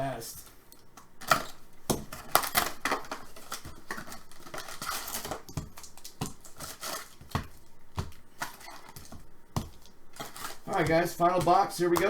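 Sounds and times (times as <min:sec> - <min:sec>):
cards rustling: 0:00.0 - 0:12.0.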